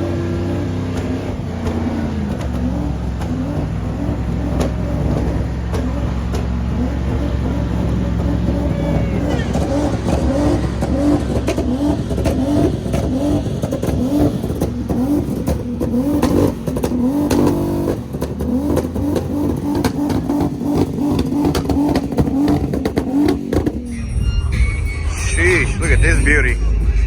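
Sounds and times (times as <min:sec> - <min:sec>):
vehicle engine revving hard: 0:00.0 - 0:23.9.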